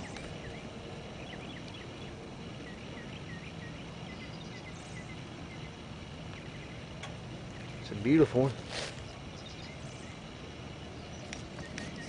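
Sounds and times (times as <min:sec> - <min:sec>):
faint high bird chirps: 0:00.0 - 0:08.0, 0:09.0 - 0:12.0
steady low rumble: 0:00.0 - 0:12.0.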